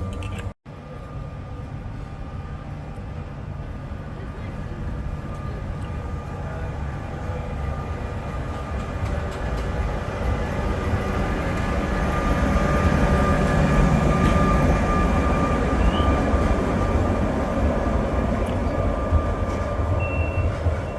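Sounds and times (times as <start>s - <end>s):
tram rumbling on rails: 0.0s - 20.9s.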